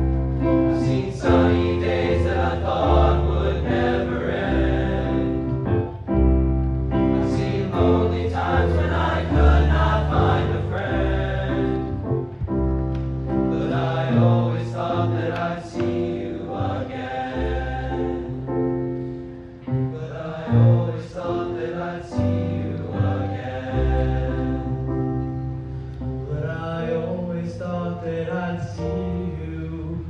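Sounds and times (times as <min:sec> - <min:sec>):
vocal ensemble singing chords: 0:00.0 - 0:30.0.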